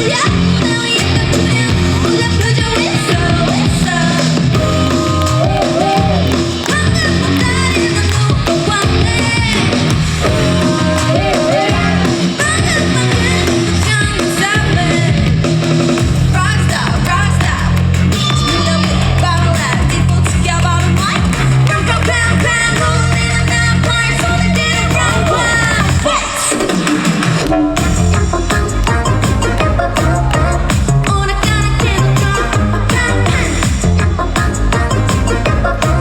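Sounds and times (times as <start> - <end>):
upbeat pop song with singing: 0.0 - 36.0.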